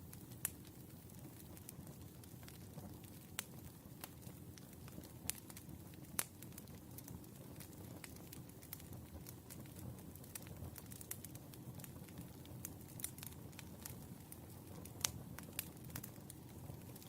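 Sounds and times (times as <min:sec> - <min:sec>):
firewood crackling and popping: 0:00.0 - 0:17.0
low rumble of flame: 0:00.0 - 0:17.0.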